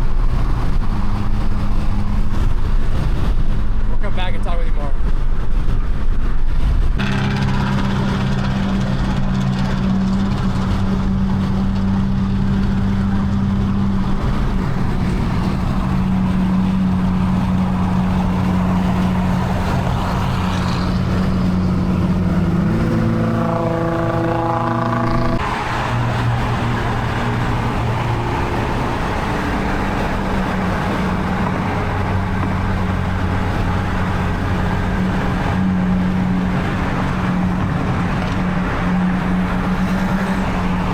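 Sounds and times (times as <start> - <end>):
car engine drone: 0.0 - 40.9.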